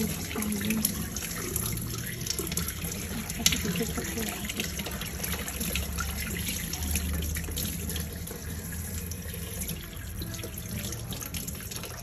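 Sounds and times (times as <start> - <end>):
tap water running onto hands: 0.0 - 12.0
water splashing and dripping: 0.0 - 12.0.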